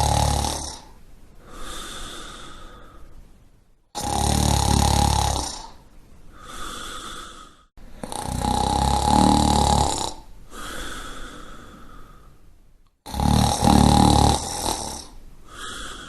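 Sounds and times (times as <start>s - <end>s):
person snoring: 0.0s - 3.0s, 4.0s - 5.8s, 6.4s - 12.3s, 13.0s - 16.0s.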